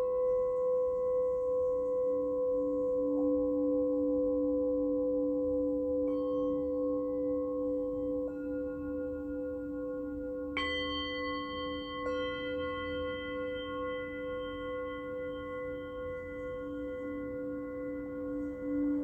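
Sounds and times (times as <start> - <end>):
low singing bowl tones: 0.0 - 19.0.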